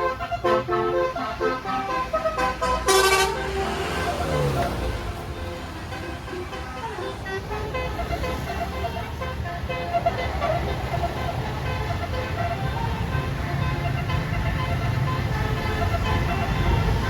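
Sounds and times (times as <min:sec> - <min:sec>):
bus horn playing a tune: 0:00.0 - 0:17.0
diesel engine rumble: 0:00.0 - 0:17.0.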